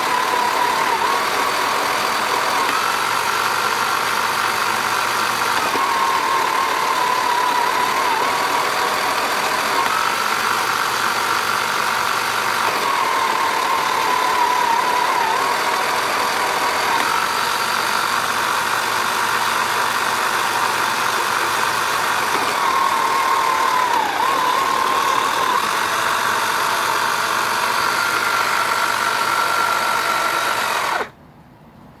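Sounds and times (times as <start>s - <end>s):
toy motor whirring: 0.0s - 31.2s.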